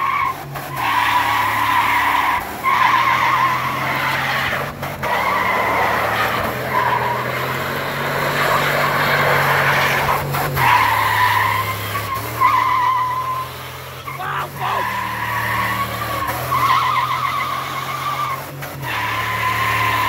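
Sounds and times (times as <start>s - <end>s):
tyres squealing: 0.0s - 7.6s, 8.2s - 20.0s
car engine at high revs: 0.0s - 20.0s.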